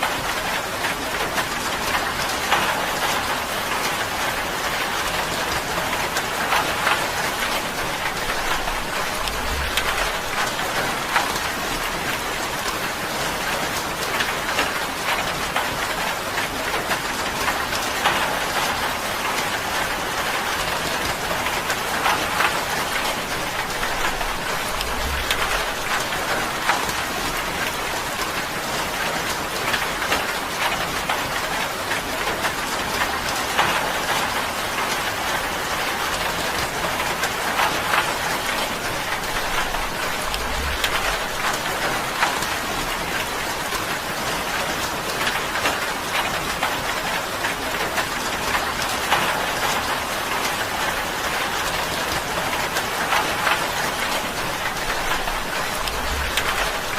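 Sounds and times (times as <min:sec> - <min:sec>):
rain on a tin roof: 0:00.0 - 0:56.9.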